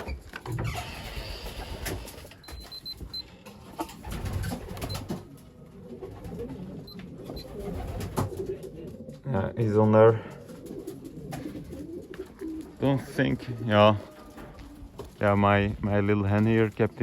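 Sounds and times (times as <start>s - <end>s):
pigeons cooing: 1.0s - 15.2s.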